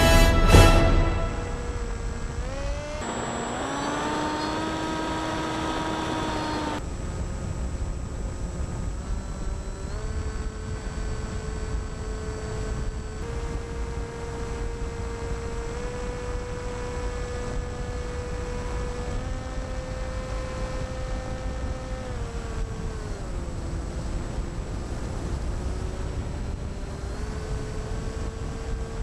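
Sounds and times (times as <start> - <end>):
electric motor and propeller whine: 1.0 - 29.0
wind rushing on microphone: 4.3 - 29.0.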